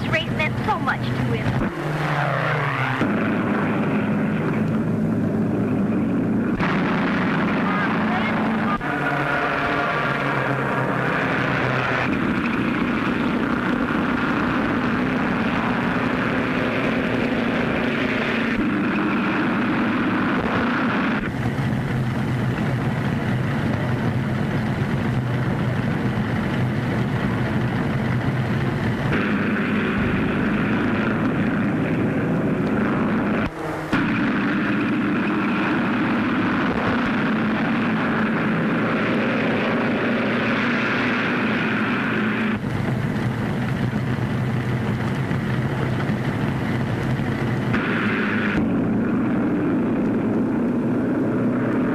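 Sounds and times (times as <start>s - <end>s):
racing car engines droning: 0.0s - 51.9s.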